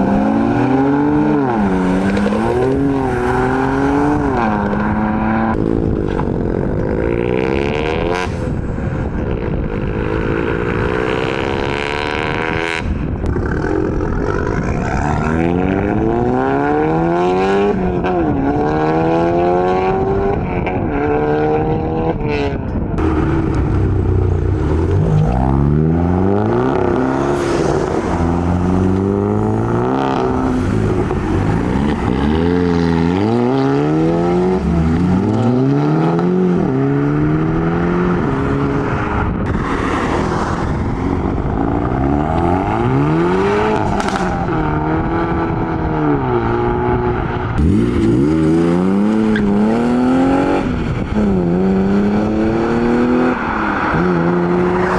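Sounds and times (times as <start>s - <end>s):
car engines revving and accelerating: 0.0s - 54.9s.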